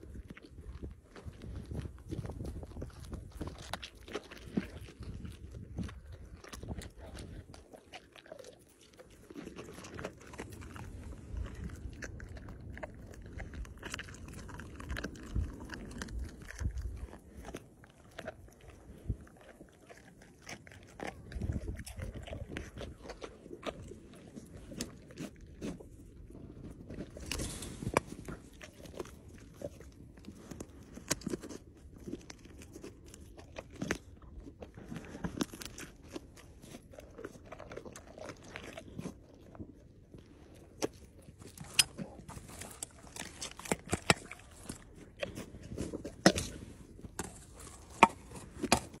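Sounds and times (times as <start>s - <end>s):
tiger chewing meat: 0.0s - 49.0s
wet crunching: 0.0s - 49.0s.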